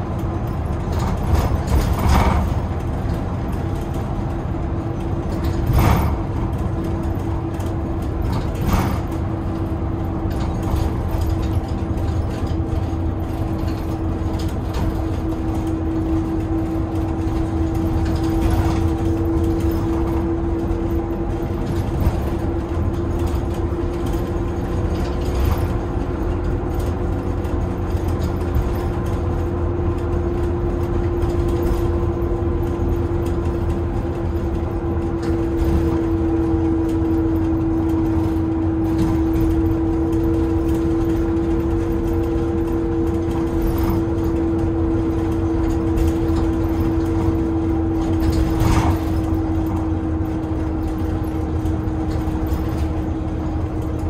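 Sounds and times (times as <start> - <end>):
bus engine and road rumble: 0.0 - 54.0
constant whine: 0.0 - 54.0.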